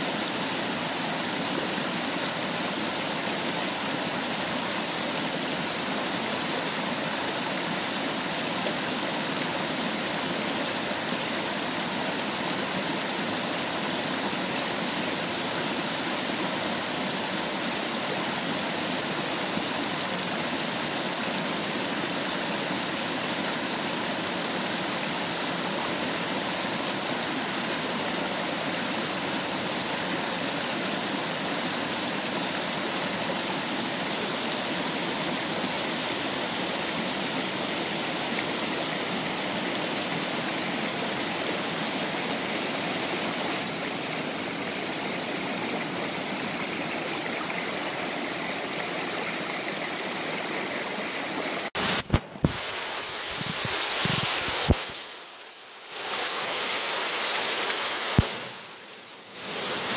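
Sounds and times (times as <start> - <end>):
waterfall and stream rushing: 0.0 - 59.9.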